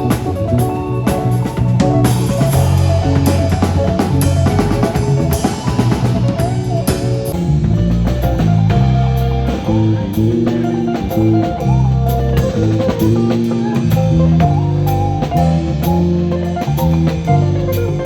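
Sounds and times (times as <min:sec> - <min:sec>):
drum kit beat: 0:00.0 - 0:18.0
guitar and bass chords: 0:00.0 - 0:18.0.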